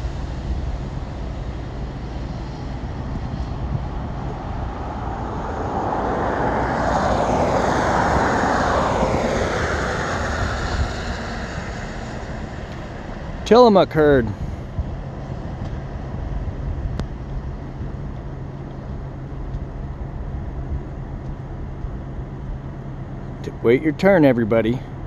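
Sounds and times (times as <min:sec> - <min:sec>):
passing engine rushing: 0:00.0 - 0:21.1
steady low rumble: 0:00.0 - 0:25.0.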